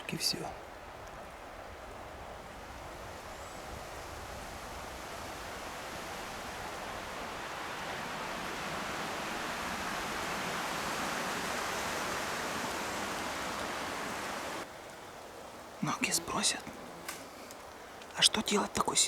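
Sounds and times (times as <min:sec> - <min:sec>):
wind rushing through trees: 0:00.0 - 0:19.0.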